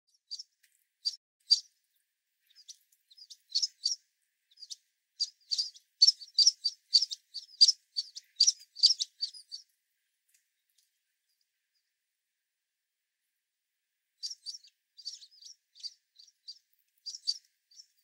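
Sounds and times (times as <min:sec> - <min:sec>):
sparrows chirping: 0:00.1 - 0:11.9, 0:14.1 - 0:18.0.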